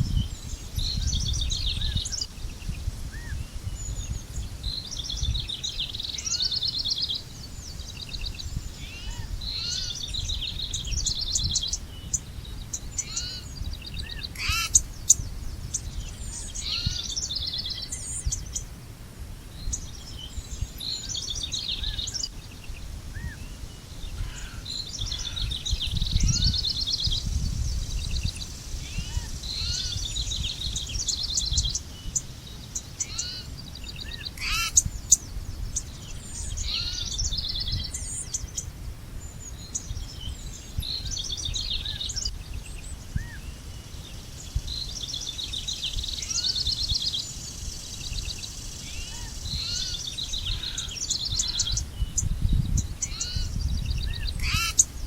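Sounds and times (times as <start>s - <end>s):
songbirds trilling: 0.0s - 18.8s, 19.4s - 55.0s.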